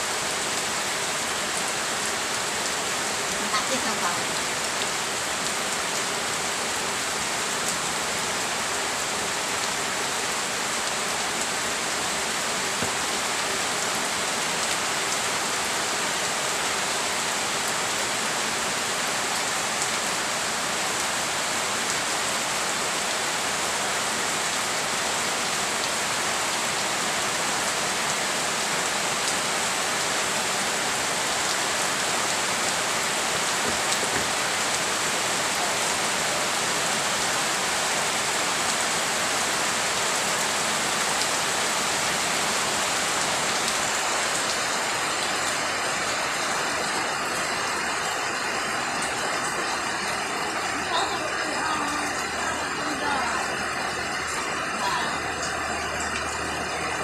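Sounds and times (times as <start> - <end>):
steady rain on foliage: 0.0 - 57.0.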